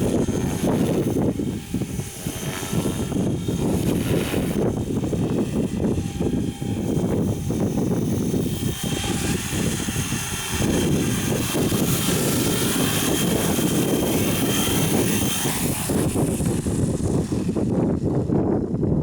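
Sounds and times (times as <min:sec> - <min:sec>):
model helicopter whining: 0:00.0 - 0:19.0
wind rumble on microphone: 0:00.0 - 0:19.0.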